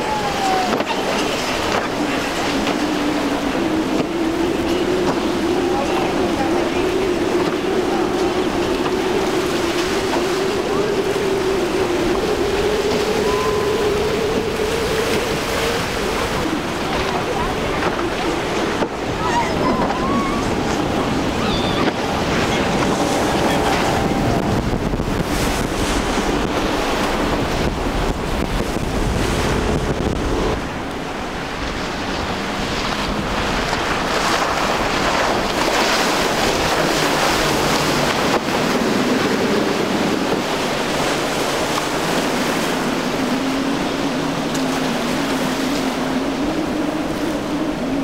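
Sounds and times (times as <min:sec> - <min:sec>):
outboard engine drone: 0:00.0 - 0:48.0
wake spray and waves rushing: 0:00.0 - 0:48.0
wind buffeting microphone: 0:00.0 - 0:48.0.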